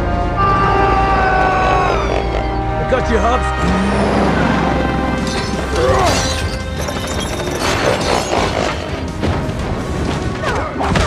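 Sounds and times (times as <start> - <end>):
dramatic orchestral score: 0.0 - 11.0.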